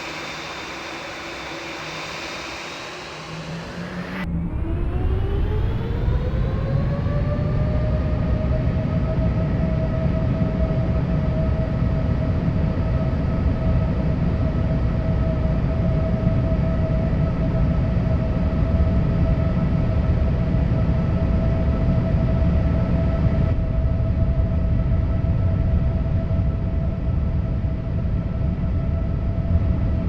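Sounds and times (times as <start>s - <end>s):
jet engine whine: 0.0s - 30.0s.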